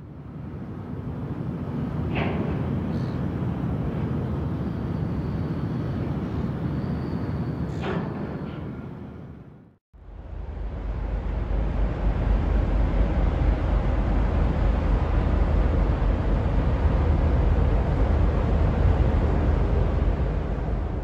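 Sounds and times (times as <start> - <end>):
ship engine low rumble: 0.0 - 21.0.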